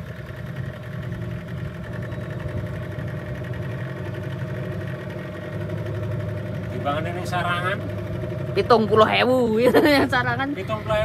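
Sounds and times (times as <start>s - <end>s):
small boat engine running: 0.0s - 11.0s.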